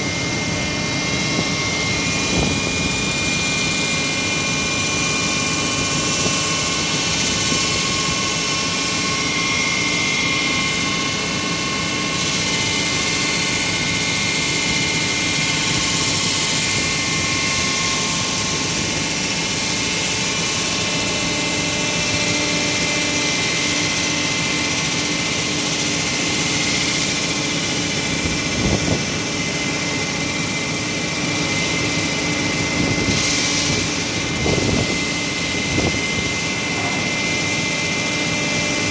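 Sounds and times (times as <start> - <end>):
wall saw whining through concrete: 0.0 - 38.9.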